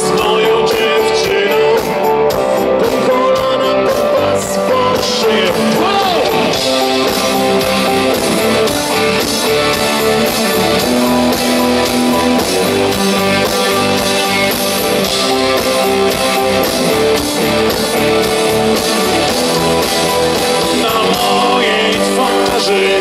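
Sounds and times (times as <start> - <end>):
guitar chords: 0.0 - 23.0
live pop-rock band playing: 0.0 - 23.0.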